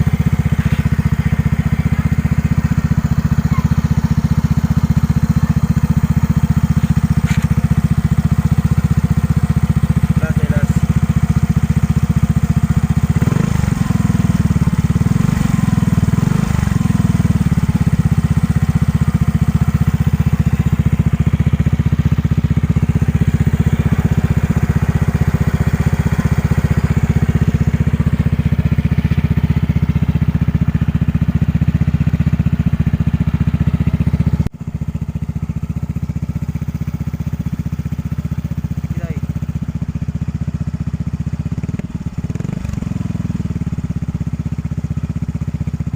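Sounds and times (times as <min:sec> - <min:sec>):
scooter engine revving and idling: 0:00.0 - 0:45.9.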